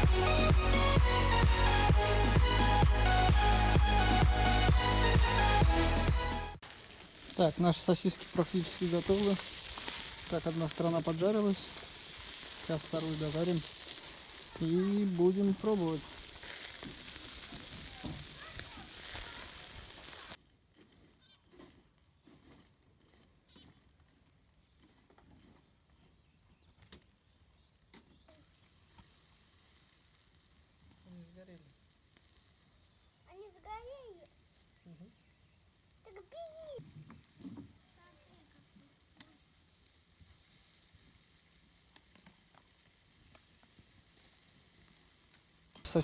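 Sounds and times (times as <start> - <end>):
sausages sizzling on a grill: 0.0 - 20.4, 26.2 - 46.0
small crackles: 6.6 - 46.0.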